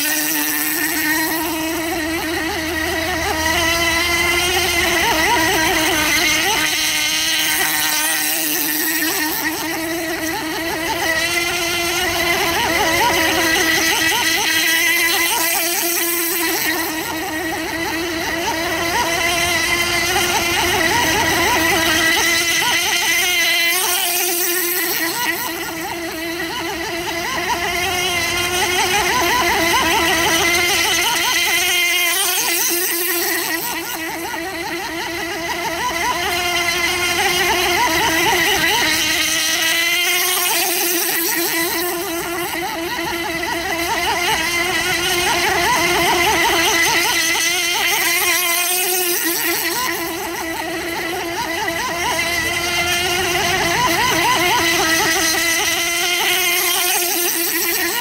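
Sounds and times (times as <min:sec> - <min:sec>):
model boat engine buzzing: 0:00.0 - 0:58.0.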